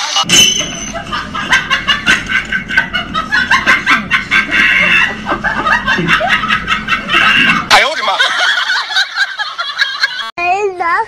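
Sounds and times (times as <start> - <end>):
snickering laughter: 0.9 - 10.3.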